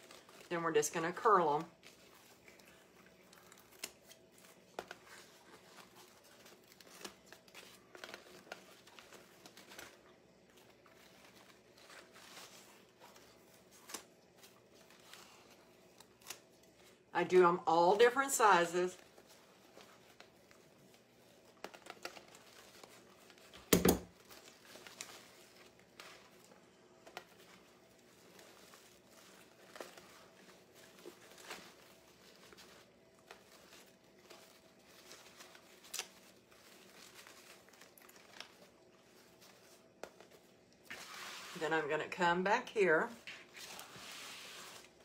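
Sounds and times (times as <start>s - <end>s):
ribbon rustling and crinkling: 0.0s - 45.0s.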